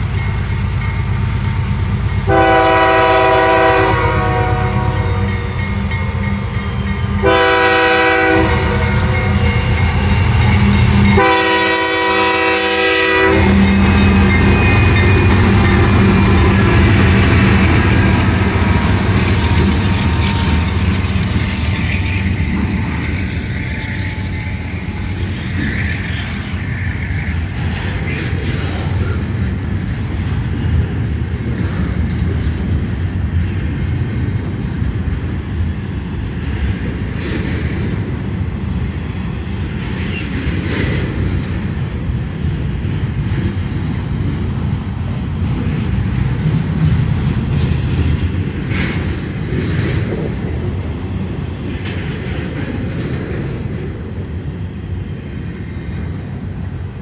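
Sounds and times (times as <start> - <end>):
freight train cars rumbling past: 0.0 - 57.0.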